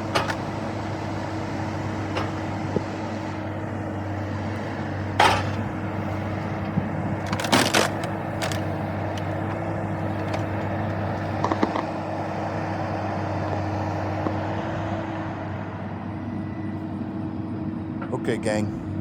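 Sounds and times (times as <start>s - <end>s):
small diesel engine running: 0.0s - 19.0s.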